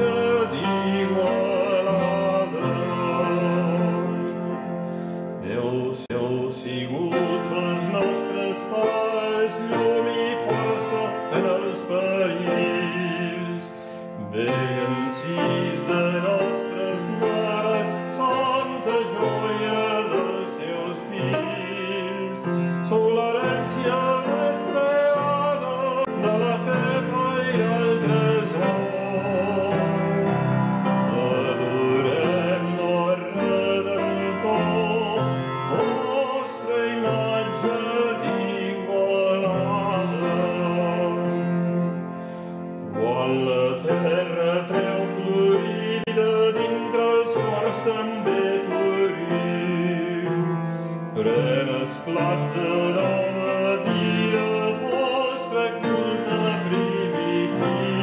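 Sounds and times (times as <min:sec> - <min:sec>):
man singing operatically: 0:00.0 - 0:58.0
piano accompaniment: 0:00.0 - 0:58.0.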